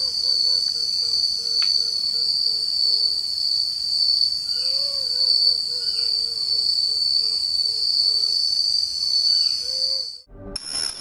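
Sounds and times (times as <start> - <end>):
insect chorus trilling: 0.0 - 10.2.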